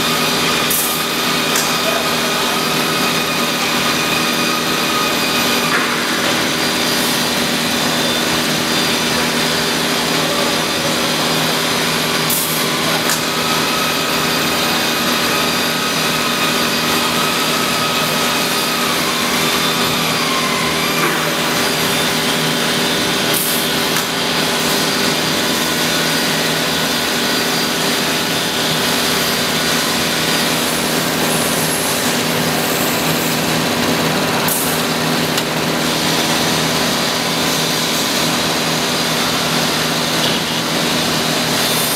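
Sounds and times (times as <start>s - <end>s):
router bit cutting wood: 0.0s - 41.9s
router spindle whining: 0.0s - 41.9s.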